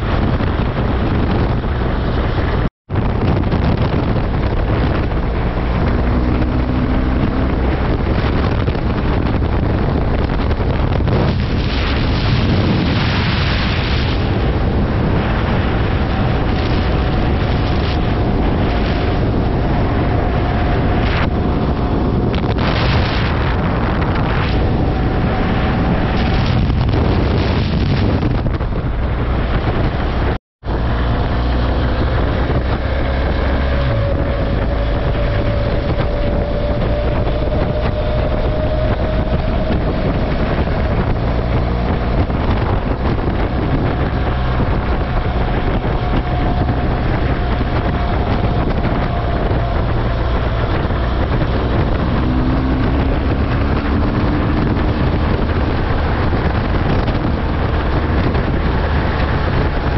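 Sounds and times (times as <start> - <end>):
vehicle engine and road noise: 0.0 - 59.9
wind rushing over microphone: 0.0 - 59.9.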